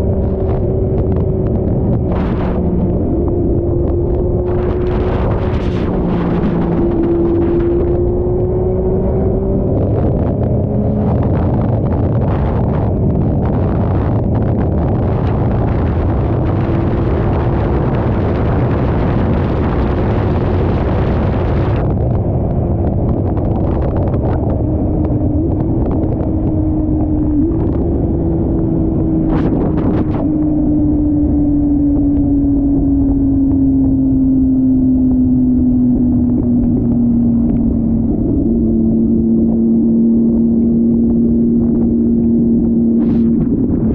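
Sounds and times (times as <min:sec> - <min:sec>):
loud rush of wind: 0:00.0 - 0:43.9
motorcycle engine running: 0:00.0 - 0:43.9.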